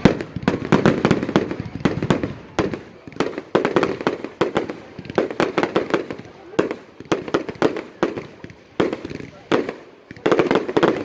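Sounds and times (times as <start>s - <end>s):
fireworks cracks and bangs: 0.0s - 11.0s
heavy firework booms: 0.0s - 11.0s.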